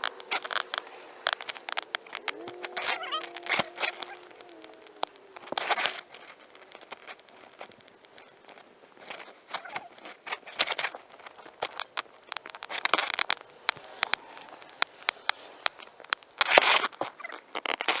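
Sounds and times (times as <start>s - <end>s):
digging in garden soil: 0.0s - 18.0s.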